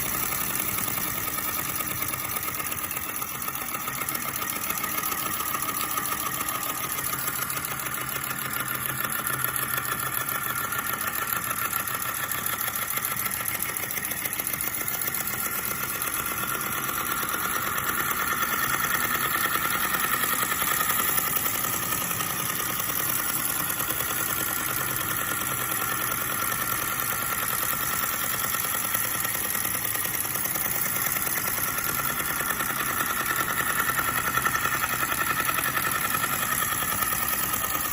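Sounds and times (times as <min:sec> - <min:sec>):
model engine clattering: 0:00.0 - 0:37.9.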